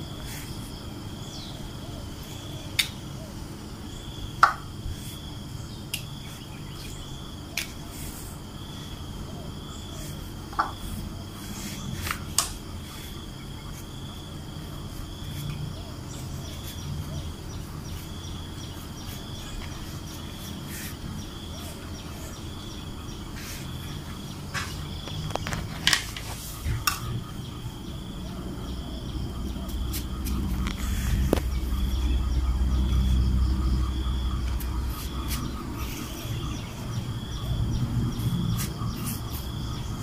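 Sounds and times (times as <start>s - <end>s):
cricket trilling: 0.0s - 40.0s.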